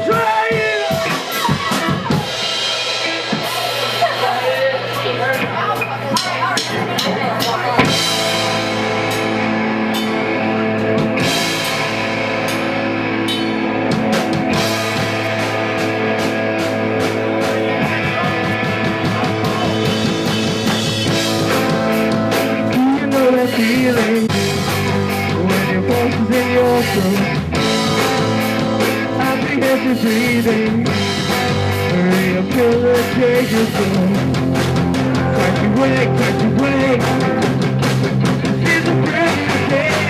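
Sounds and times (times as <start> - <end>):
drum kit: 0.0 - 40.0
electric guitars: 0.0 - 40.0
live punk rock band: 0.0 - 40.0.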